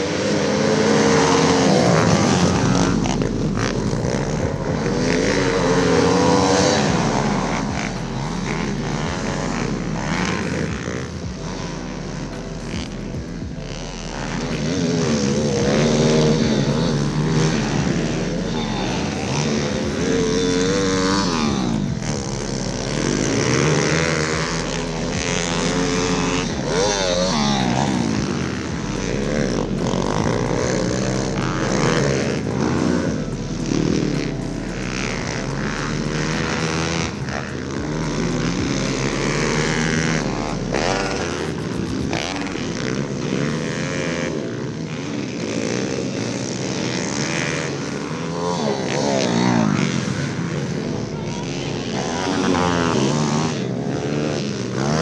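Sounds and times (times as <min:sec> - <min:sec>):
pit bike engines revving: 0:00.0 - 0:55.0.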